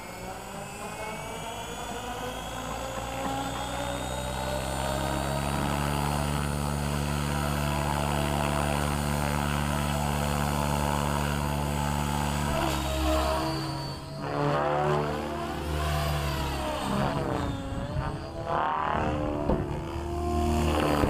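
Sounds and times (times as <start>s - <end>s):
electric motor whine: 0.0s - 21.0s
rc helicopter rotor buzz: 0.0s - 21.0s.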